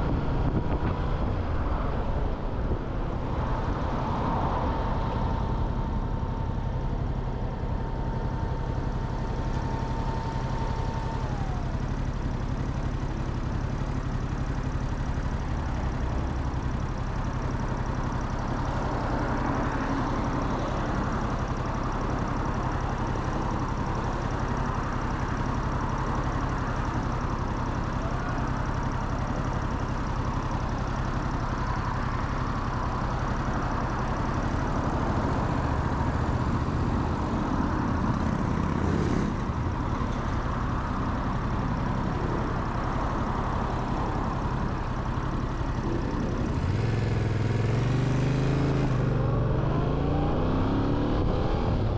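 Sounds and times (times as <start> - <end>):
motorcycle engine idling: 4.6 - 49.3.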